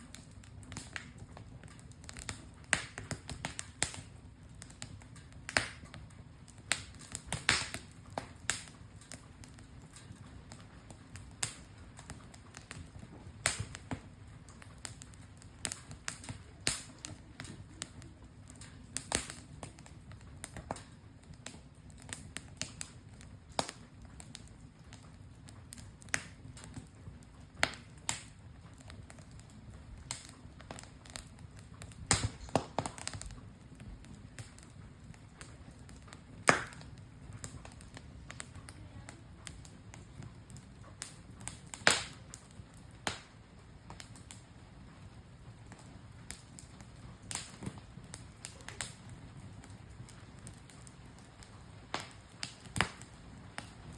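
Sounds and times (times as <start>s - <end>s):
campfire crackling and popping: 0.0s - 53.9s
low steady hiss: 0.0s - 53.9s.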